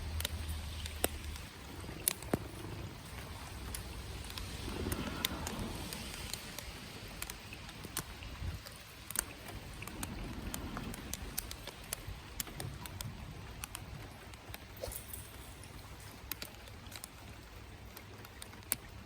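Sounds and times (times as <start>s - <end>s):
low steady rumble: 0.0s - 17.8s
rain pattering: 0.0s - 19.0s.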